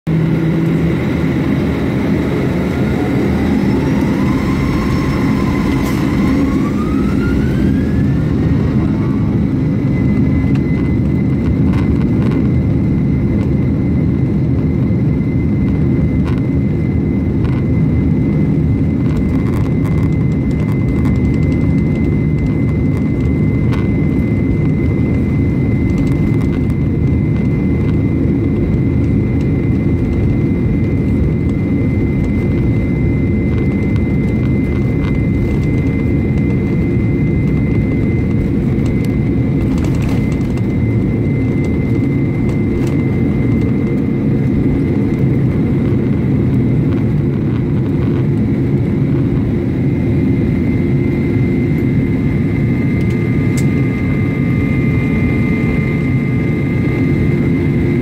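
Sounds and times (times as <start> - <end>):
jet engine rumble: 0.0 - 58.0
jet engine whine: 0.0 - 58.0.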